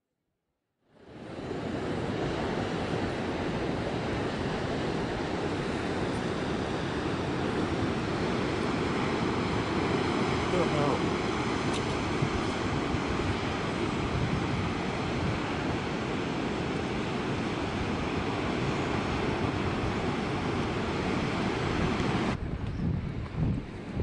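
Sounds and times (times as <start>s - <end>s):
ocean surf rushing: 1.0s - 22.5s
wind on microphone: 1.2s - 24.0s.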